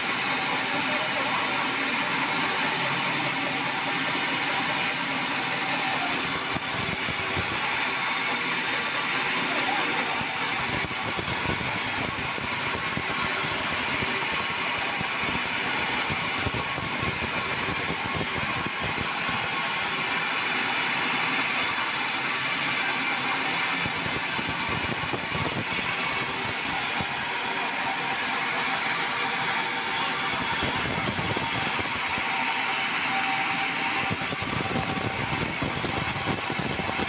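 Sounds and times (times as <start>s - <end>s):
sawmill saw cutting log: 0.0s - 37.0s.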